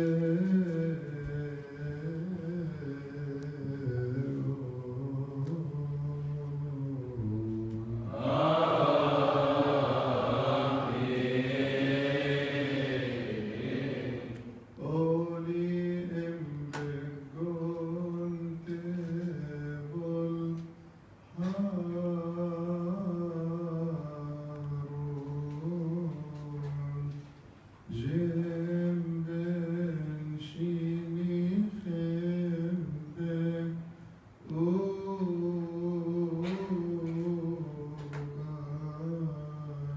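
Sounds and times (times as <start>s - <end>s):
man chanting into a microphone: 0.0s - 11.2s, 14.6s - 27.3s, 27.9s - 39.9s.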